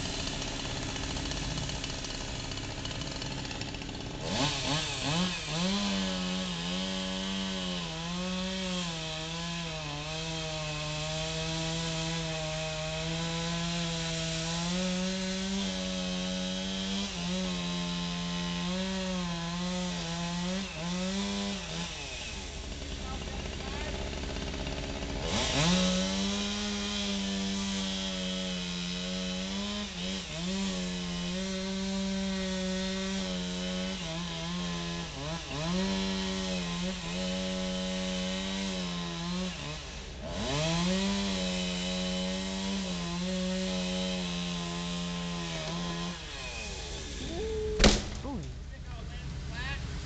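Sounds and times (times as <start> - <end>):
chainsaw cutting into tree: 0.0 - 48.8
chainsaw idling and revving: 0.0 - 50.0.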